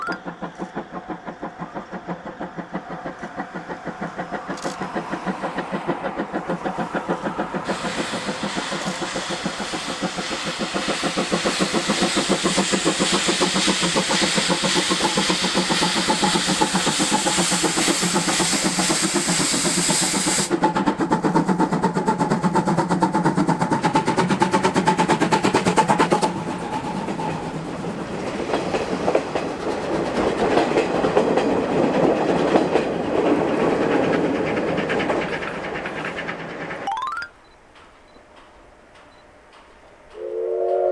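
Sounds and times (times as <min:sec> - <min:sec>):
steam locomotive exhaust chuffing: 0:00.2 - 0:36.8, 0:38.4 - 0:40.9.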